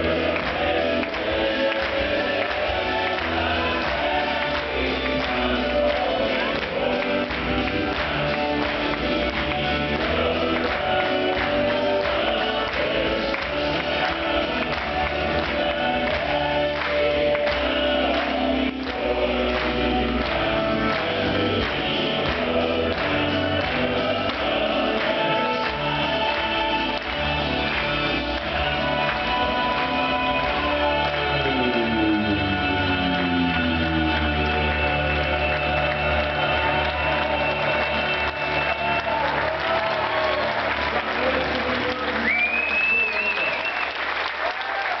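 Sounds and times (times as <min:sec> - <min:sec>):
instrumental accompaniment: 0:00.0 - 0:41.4
male quartet singing in harmony: 0:00.0 - 0:42.2.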